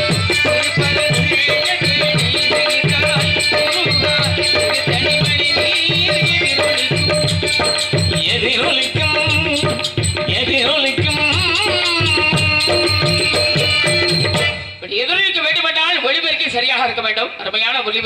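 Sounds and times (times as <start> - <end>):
hand drum beating: 0.0 - 14.7
clinking percussion: 0.0 - 14.9.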